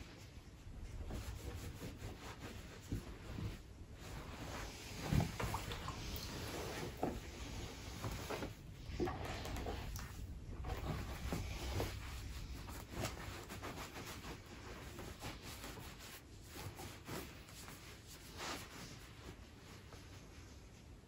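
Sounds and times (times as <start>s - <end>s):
towel rubbing a bare foot: 0.0s - 20.5s
soft handling noises: 0.0s - 21.0s.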